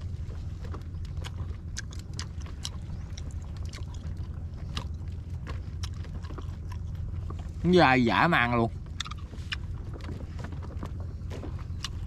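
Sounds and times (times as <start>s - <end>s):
person chewing: 0.0s - 7.6s, 8.8s - 12.0s
steady low rumble: 0.0s - 12.0s.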